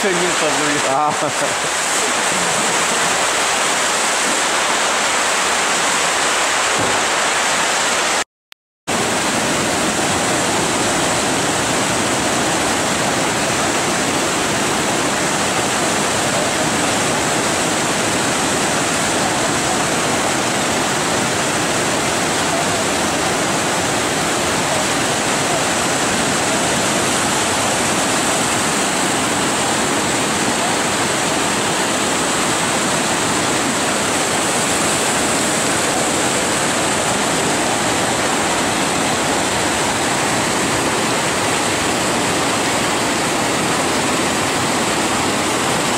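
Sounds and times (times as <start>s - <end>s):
whitewater rapids rushing: 0.0s - 8.2s, 8.9s - 45.9s.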